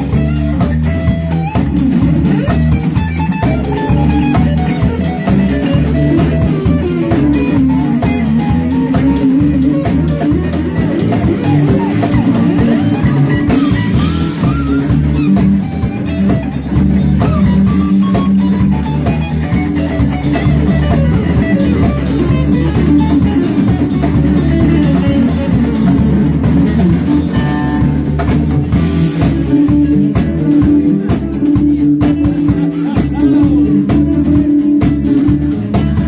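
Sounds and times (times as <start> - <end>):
bass guitar: 0.0 - 36.0
drum kit: 0.0 - 36.0
electric guitar lead: 0.0 - 36.0.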